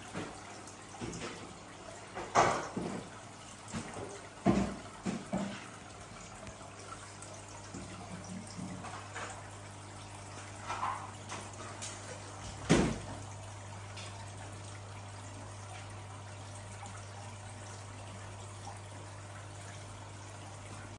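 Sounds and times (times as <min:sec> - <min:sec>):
aquarium filter humming: 0:00.0 - 0:20.9
water trickling and splashing: 0:00.0 - 0:20.9.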